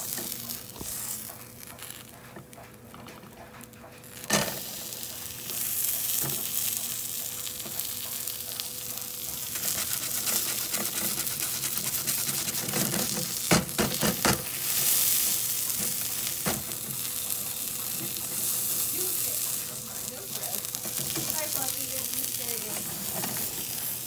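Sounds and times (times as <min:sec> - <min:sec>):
sandwich sizzling in a frying pan: 0:00.0 - 0:24.0.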